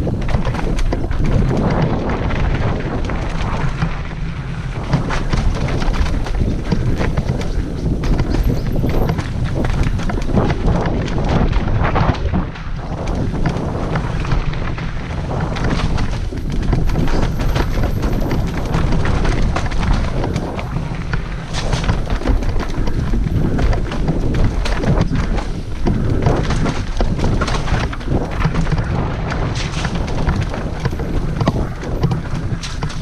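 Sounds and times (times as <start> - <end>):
bike rattling on roots: 0.0 - 33.0
wind buffeting microphone: 0.0 - 33.0.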